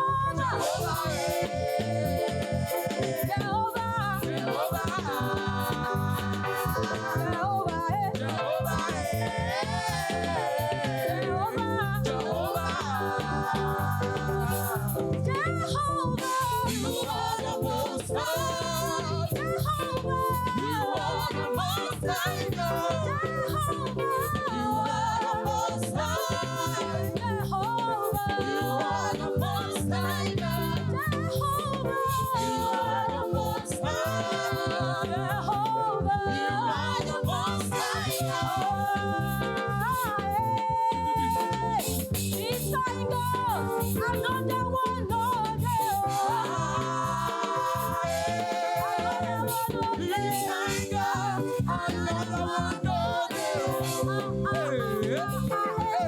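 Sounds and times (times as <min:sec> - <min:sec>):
choir singing gospel: 0:00.0 - 0:56.0
instrumental accompaniment with beat: 0:00.0 - 0:56.0.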